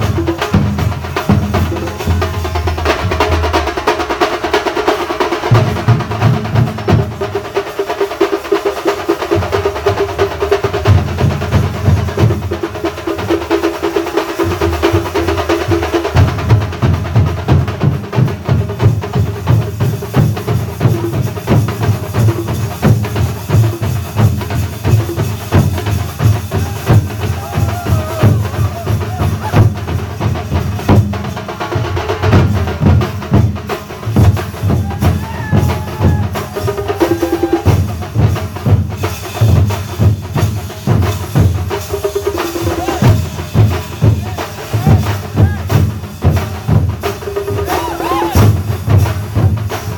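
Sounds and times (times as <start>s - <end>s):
drum ensemble playing fast rhythm: 0.0s - 49.9s.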